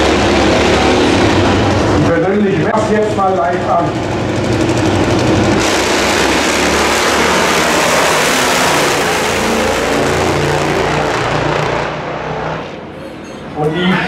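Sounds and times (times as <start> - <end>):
motorcycle engines blaring: 0.0 - 14.0.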